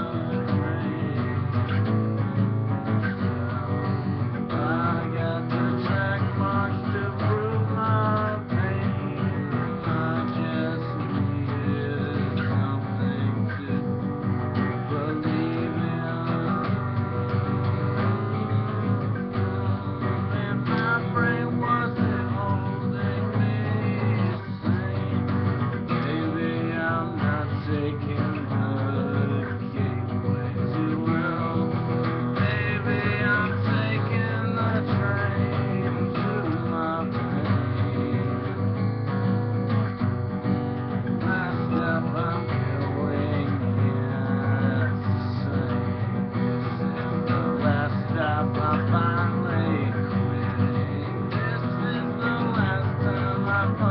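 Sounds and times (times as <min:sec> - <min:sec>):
acoustic guitar strumming: 0:00.0 - 0:53.9.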